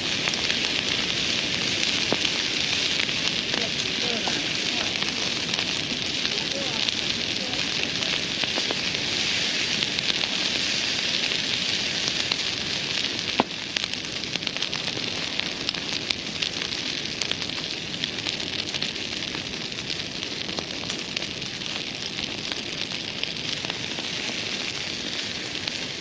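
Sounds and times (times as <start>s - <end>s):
bonfire hissing: 0.0s - 26.0s
fire crackling and popping: 0.0s - 26.0s.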